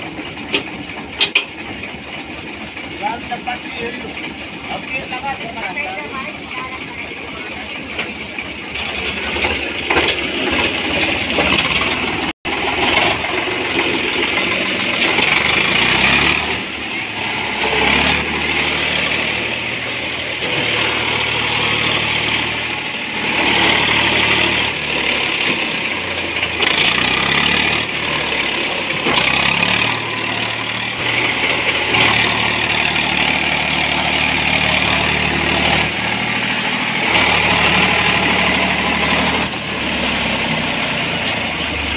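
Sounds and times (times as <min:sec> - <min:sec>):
tractor diesel engines under load: 0:00.0 - 0:41.9.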